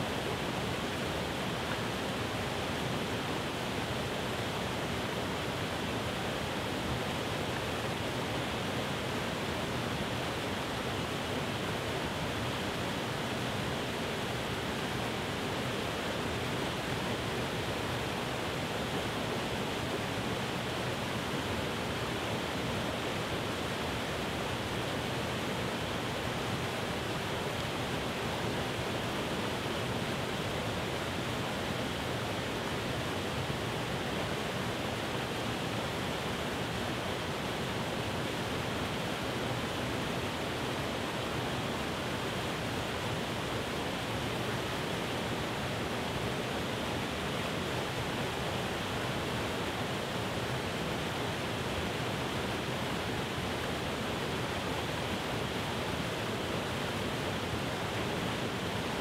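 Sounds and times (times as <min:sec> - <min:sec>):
rush of falling water: 0:00.0 - 0:59.0.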